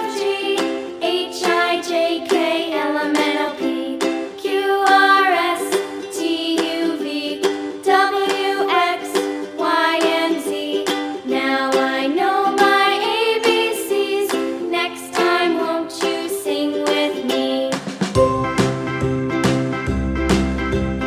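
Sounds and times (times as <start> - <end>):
plucked ukulele-like tune: 0.0 - 21.0.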